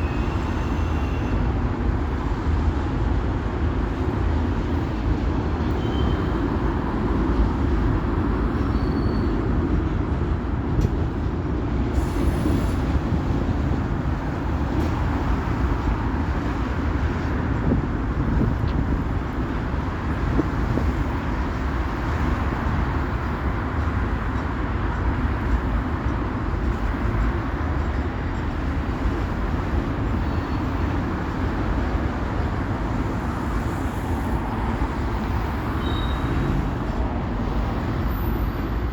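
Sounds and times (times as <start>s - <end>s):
train wheels on rails: 0.0s - 38.9s.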